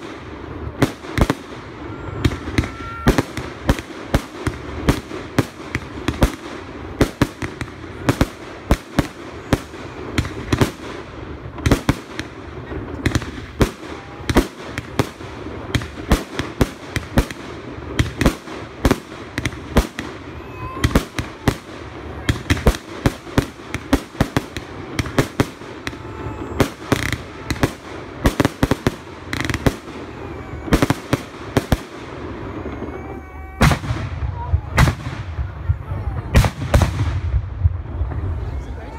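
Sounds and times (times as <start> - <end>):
fireworks bangs: 0.0 - 38.9
firework whistle: 0.9 - 5.4, 7.9 - 10.9, 11.7 - 35.6.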